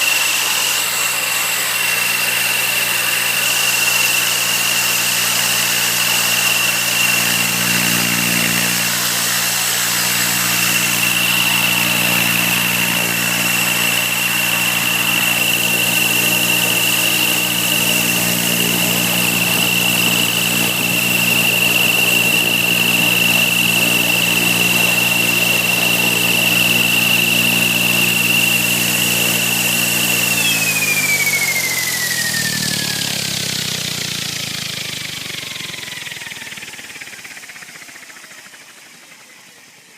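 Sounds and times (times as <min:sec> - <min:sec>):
high-pitched machine squeal: 0:00.0 - 0:34.4.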